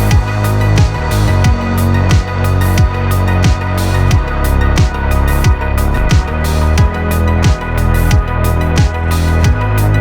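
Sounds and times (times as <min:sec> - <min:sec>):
deep kick drum: 0:00.0 - 0:10.0
electronic music with heavy bass: 0:00.0 - 0:10.0.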